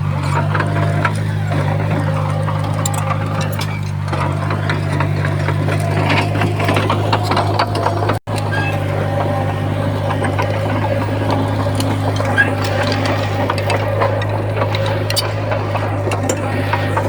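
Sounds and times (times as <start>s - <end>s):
heavy diesel machine engine drone: 0.0s - 17.0s
metal clanks and rattles: 0.3s - 17.0s.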